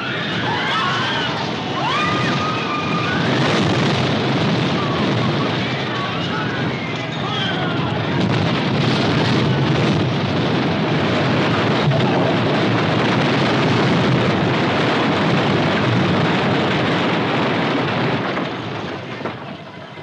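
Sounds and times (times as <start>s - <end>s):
building collapsing rumble and crash: 0.0s - 20.0s.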